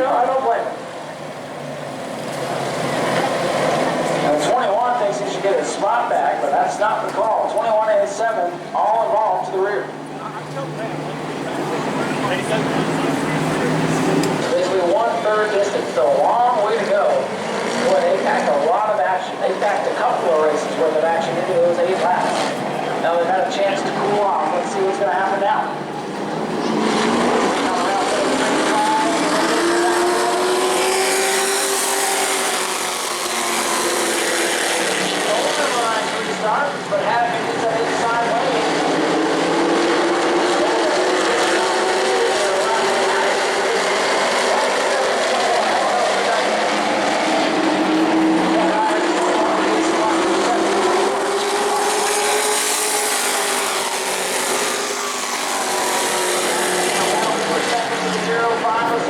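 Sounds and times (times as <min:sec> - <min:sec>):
race truck engines droning: 0:00.0 - 0:59.0.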